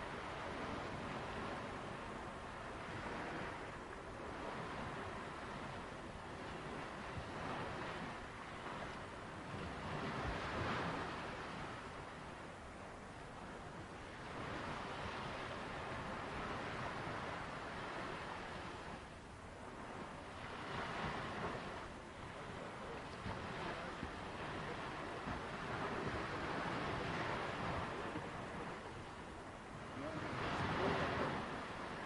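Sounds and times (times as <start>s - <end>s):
sea waves breaking on beach: 0.0s - 32.0s.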